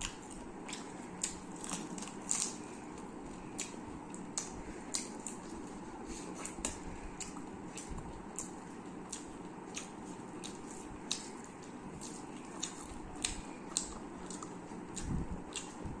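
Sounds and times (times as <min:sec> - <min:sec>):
person chewing and crunching food: 0:00.0 - 0:16.0.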